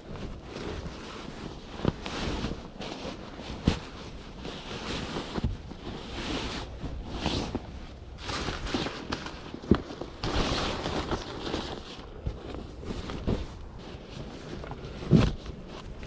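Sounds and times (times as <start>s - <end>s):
sleeping bag nylon rustling: 0.0s - 16.0s.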